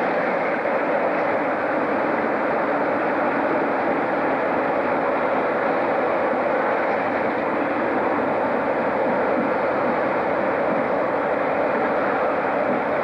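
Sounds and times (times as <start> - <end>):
locomotive rushing noise: 0.0 - 13.0.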